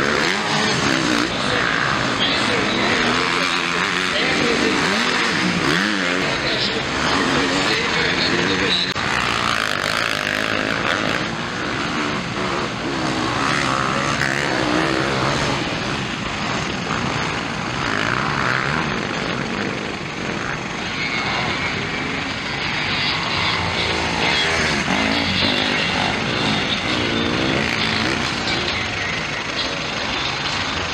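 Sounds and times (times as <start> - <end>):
dirt bike engines revving: 0.0 - 30.9.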